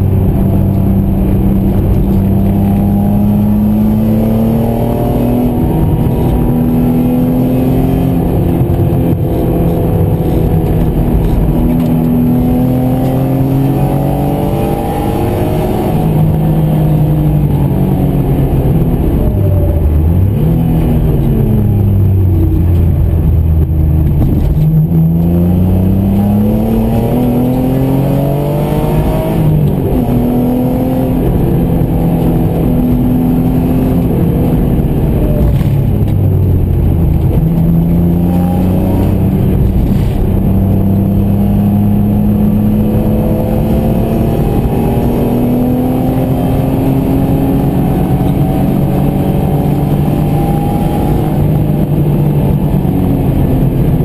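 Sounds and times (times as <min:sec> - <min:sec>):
car engine revving from inside: 0:00.0 - 0:54.0.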